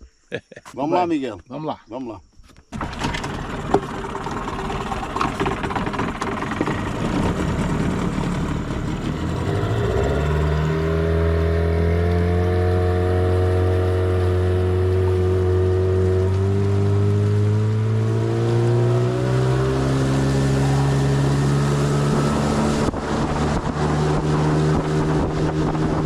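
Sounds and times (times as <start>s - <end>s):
outboard motor running: 2.7s - 26.0s
water noise: 2.7s - 26.0s.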